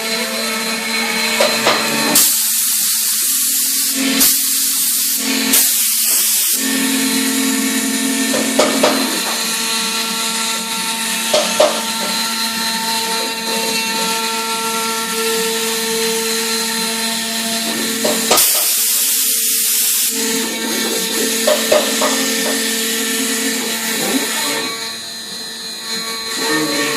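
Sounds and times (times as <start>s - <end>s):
cnc router cutting board: 0.0s - 26.9s.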